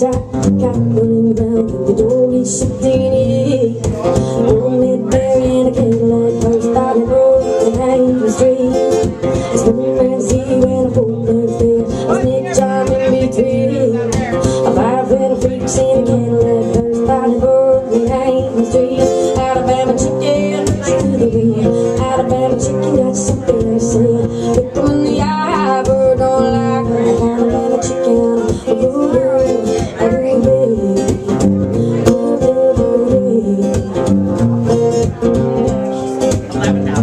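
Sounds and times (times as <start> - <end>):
acoustic guitar strumming: 0.0 - 37.0
woman singing: 0.0 - 37.0.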